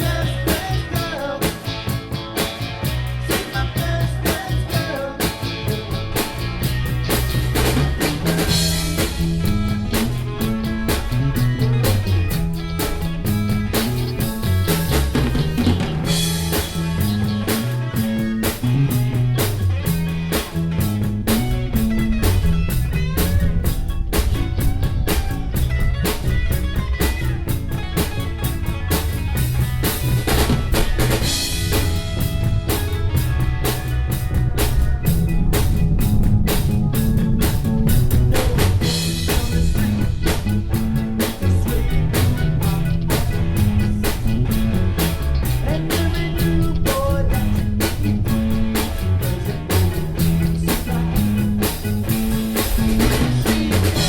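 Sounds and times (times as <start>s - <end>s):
bass line: 0.0s - 54.0s
drum kit beat: 0.0s - 54.0s
rock band playing: 0.0s - 54.0s.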